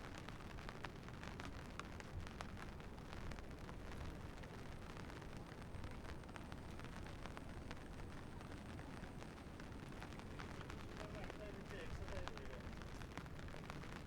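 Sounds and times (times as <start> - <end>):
rain drops ticking on surfaces: 0.0 - 14.0.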